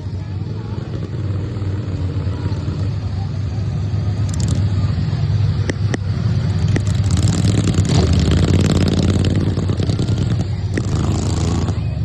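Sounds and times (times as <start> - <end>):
lawnmower engines droning: 0.0 - 12.0.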